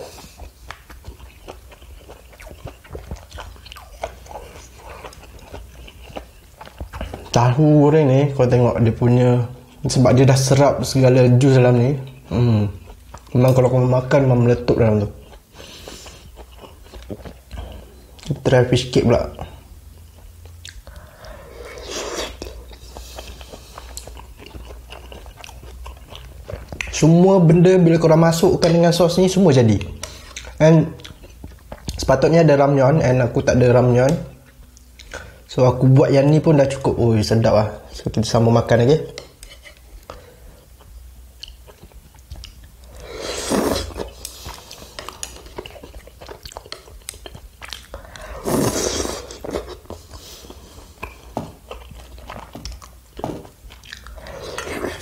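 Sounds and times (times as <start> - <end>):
person chewing close up: 0.0 - 7.9, 11.7 - 32.3, 33.2 - 35.5, 39.1 - 55.0.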